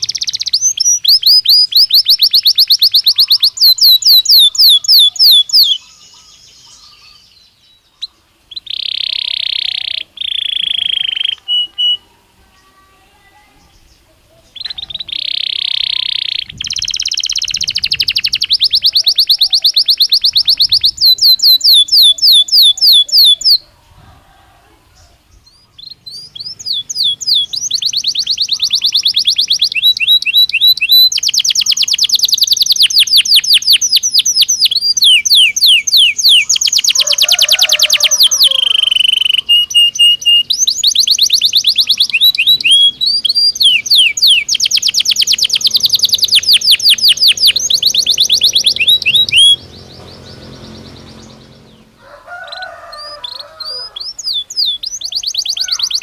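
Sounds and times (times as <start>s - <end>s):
canary singing trills: 0.0s - 24.2s, 24.9s - 56.0s.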